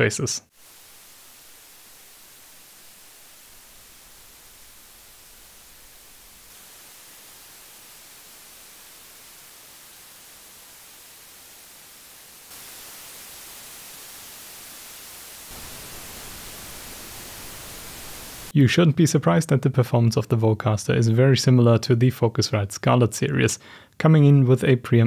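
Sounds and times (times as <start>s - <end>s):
microphone preamp hiss: 0.0s - 25.0s.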